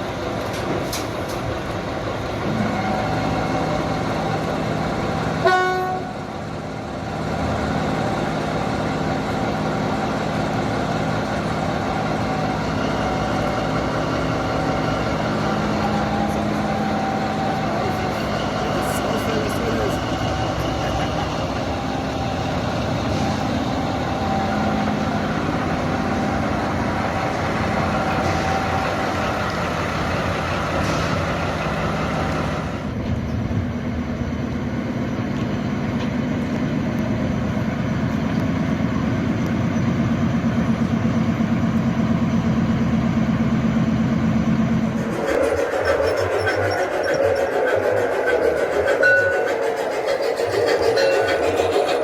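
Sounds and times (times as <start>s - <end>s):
diesel locomotive engine running: 0.0s - 52.0s.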